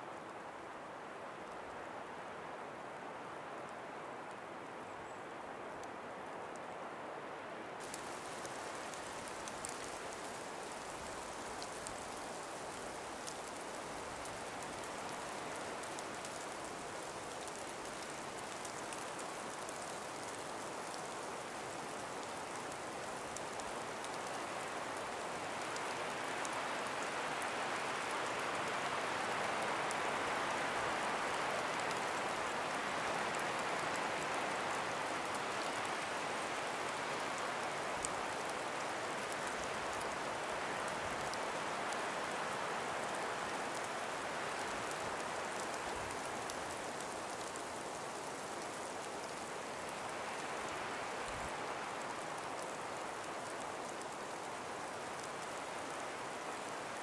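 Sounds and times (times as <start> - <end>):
breeze through trees: 0.0 - 57.0
faint scattered ticks: 7.8 - 57.0.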